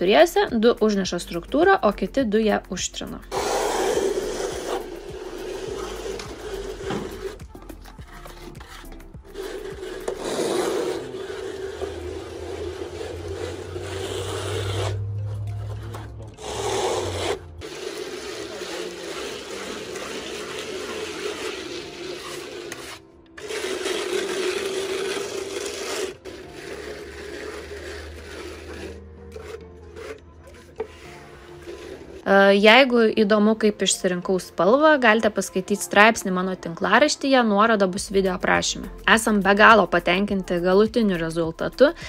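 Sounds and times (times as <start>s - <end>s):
plastic float scraping render: 3.2s - 41.2s.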